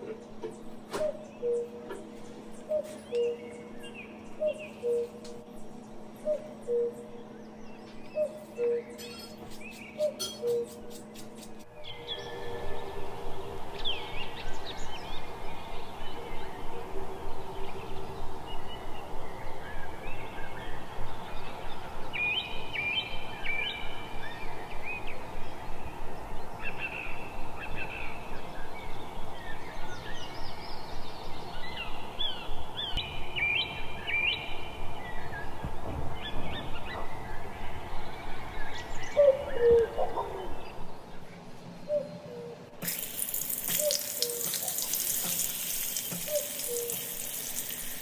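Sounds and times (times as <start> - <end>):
steady background noise: 0.0 - 48.0
birds chirping: 0.2 - 48.0.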